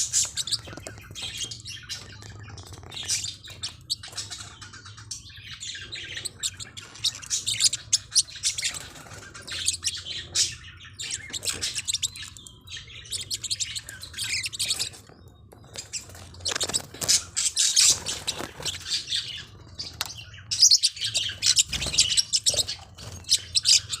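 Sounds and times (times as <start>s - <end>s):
parrotlets chirping: 0.0s - 24.0s.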